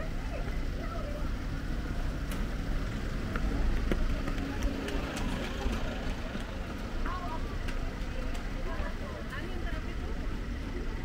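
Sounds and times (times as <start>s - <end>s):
distant voices: 0.0s - 11.0s.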